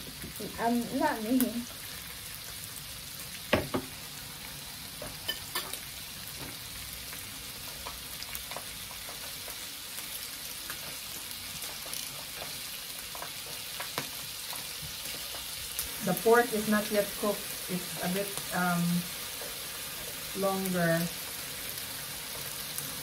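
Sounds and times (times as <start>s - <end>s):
meat sizzling on a grill plate: 0.0s - 23.0s.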